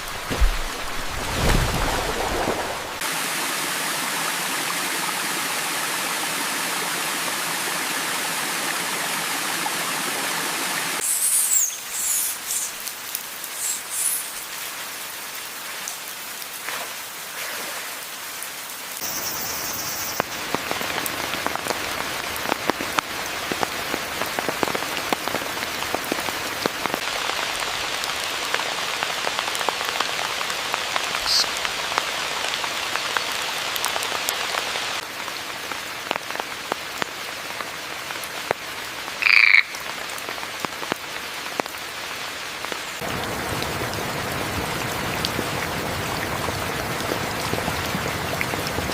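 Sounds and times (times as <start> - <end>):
rain pattering: 0.0 - 3.3, 11.9 - 48.9.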